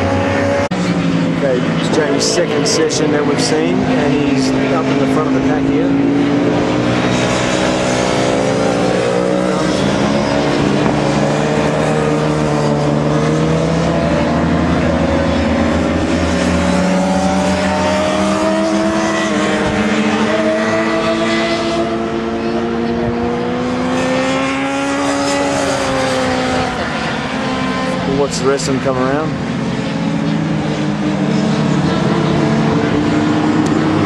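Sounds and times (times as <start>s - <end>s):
motorcycle engines accelerating: 0.0s - 34.0s.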